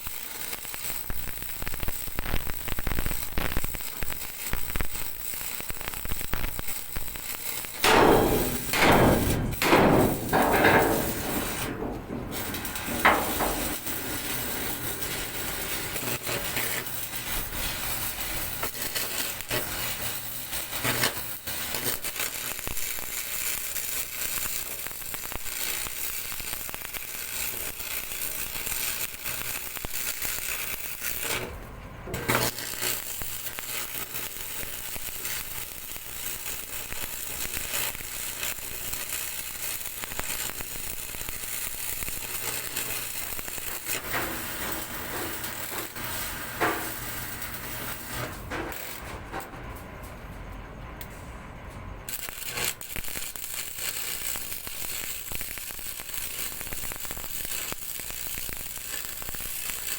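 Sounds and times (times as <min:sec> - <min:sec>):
arc welding crackling: 0:00.0 - 0:51.2, 0:51.8 - 0:59.9.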